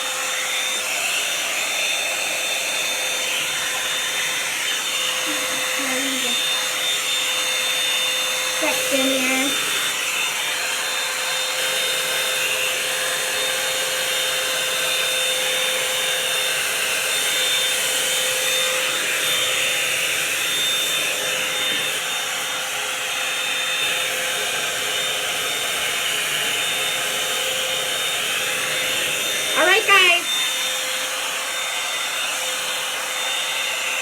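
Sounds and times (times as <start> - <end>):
hot-air brush dryer whirring: 0.0 - 34.0.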